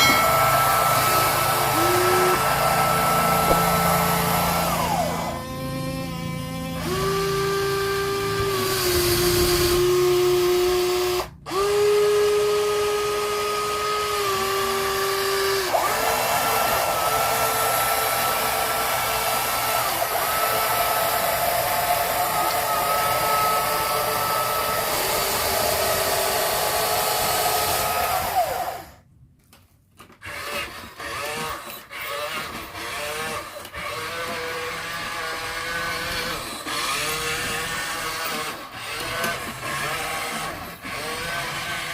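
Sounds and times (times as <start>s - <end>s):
small electric motors whining: 0.0s - 29.0s, 30.0s - 41.9s.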